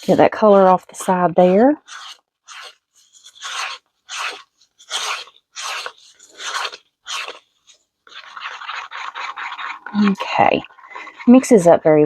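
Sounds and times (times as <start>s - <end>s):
stir stick scraping mixing cup: 0.0s - 12.0s.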